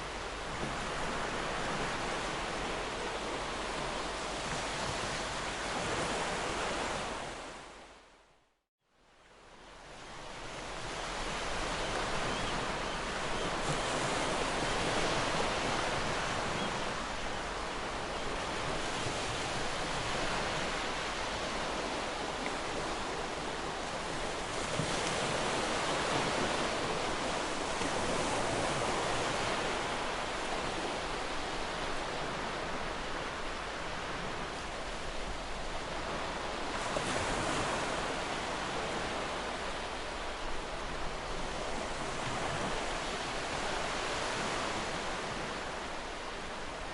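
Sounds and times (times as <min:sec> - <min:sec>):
waves breaking on shore: 0:00.0 - 0:08.0, 0:09.3 - 0:46.9.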